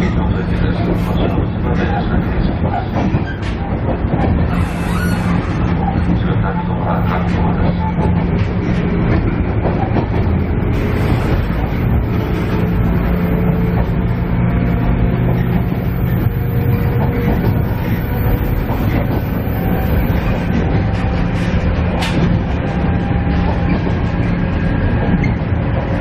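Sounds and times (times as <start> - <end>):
low diesel engine drone: 0.0 - 26.0
train wheel and rail rumble: 0.0 - 26.0.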